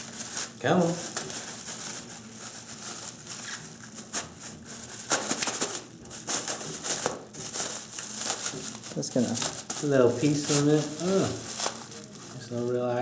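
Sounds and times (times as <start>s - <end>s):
plastic packaging crinkling: 0.0s - 12.9s.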